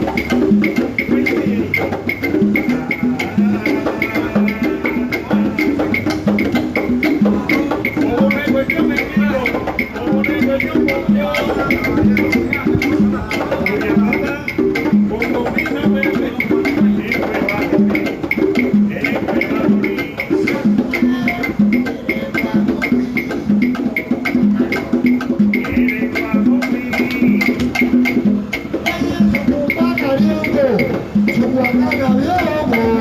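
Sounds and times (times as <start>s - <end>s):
latin band instrumental: 0.0s - 33.0s.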